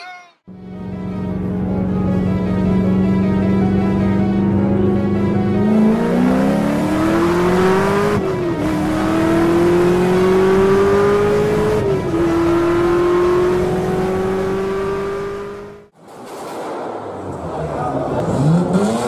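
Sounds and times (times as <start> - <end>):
car engine accelerating: 0.5 - 15.9, 17.3 - 19.0.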